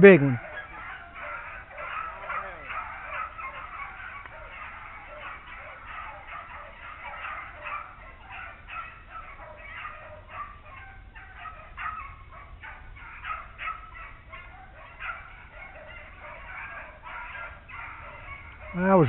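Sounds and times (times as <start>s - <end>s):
pack of dogs baying: 0.0s - 19.0s.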